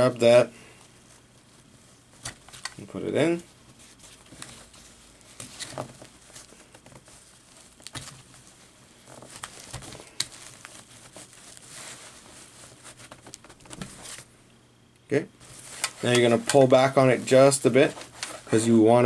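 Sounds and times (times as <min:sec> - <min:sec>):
nylon webbing rustling and scraping: 0:00.0 - 0:14.3, 0:15.4 - 0:19.0.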